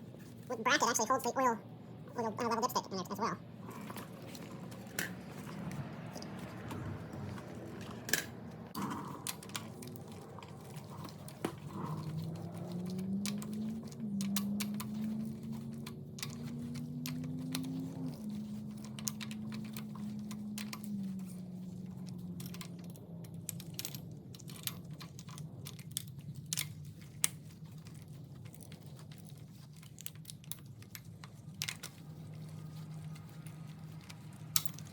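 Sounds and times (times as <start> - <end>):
low steady hum: 0.0 - 34.9
hand tools and metal parts clinking: 3.7 - 34.9.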